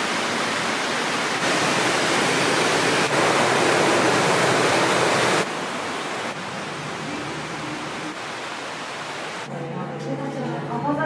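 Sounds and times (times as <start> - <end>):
waterfall rushing: 0.0 - 9.5.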